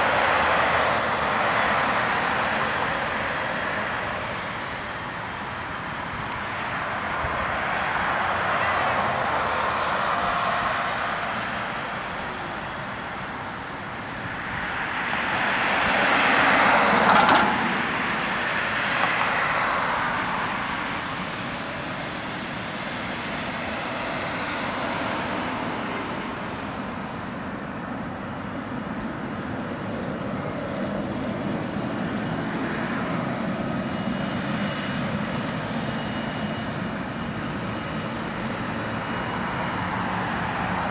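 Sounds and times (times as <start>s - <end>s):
jet engines rushing: 0.0s - 40.9s.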